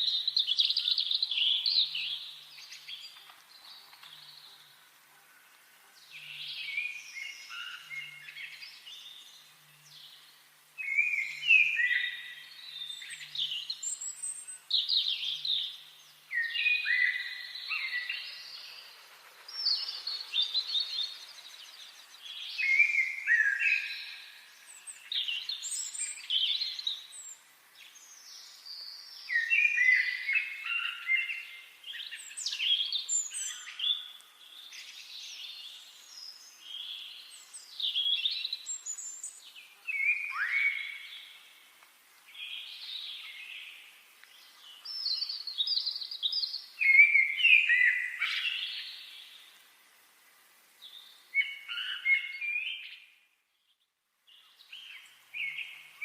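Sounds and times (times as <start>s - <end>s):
songbirds warbling: 0.0s - 49.7s, 50.7s - 56.0s.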